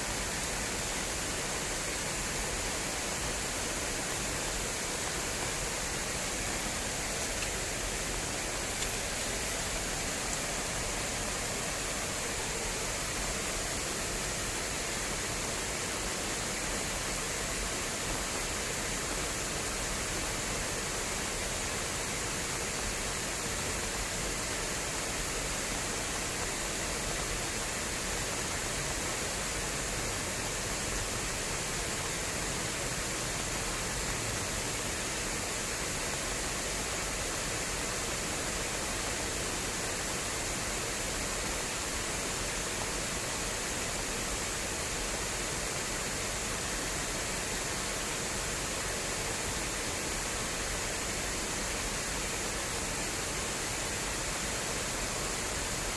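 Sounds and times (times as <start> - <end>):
water rushing through a channel: 0.0 - 55.9.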